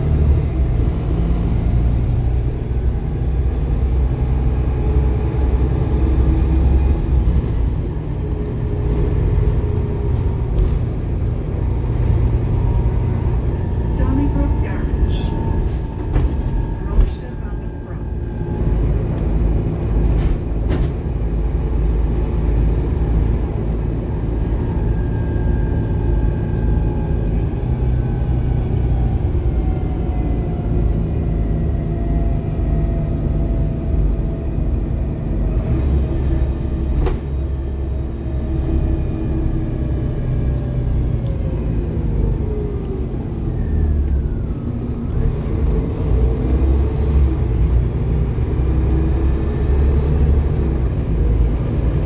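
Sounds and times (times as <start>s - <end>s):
bus engine rumbling: 0.0s - 52.0s.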